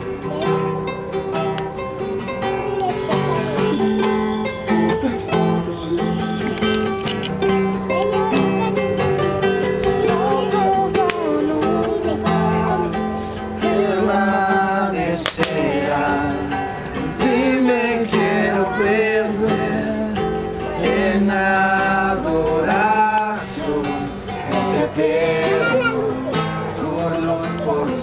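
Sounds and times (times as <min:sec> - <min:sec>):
plucked guitar: 0:00.0 - 0:28.0
voices singing worship song: 0:00.0 - 0:28.0.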